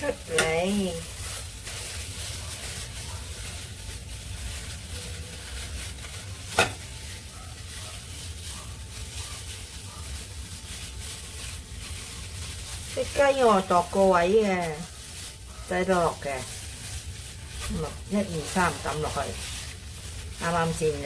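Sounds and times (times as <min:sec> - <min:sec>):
plastic bag rustling and crinkling: 0:00.0 - 0:21.0.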